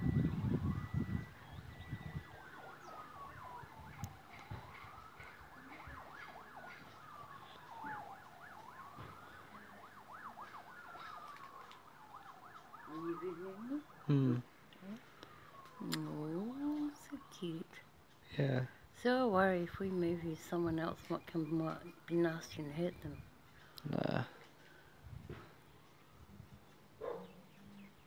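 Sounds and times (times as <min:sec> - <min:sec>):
faint siren wailing: 0:00.0 - 0:28.0.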